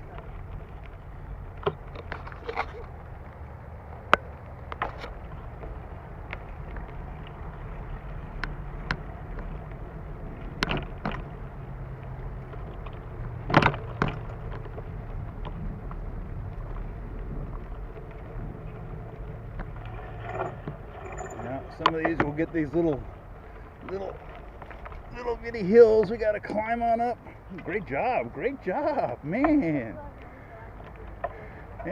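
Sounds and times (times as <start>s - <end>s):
bike rattling over bumps: 0.0s - 31.9s
tyres and wind rumbling: 0.0s - 31.9s.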